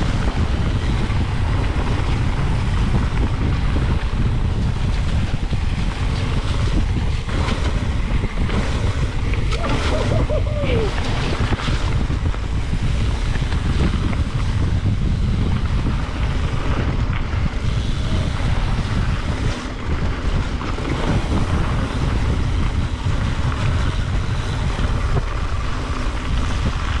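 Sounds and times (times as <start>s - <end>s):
tyres rumbling on dirt trail: 0.0s - 27.0s
wind buffeting microphone: 0.0s - 27.0s.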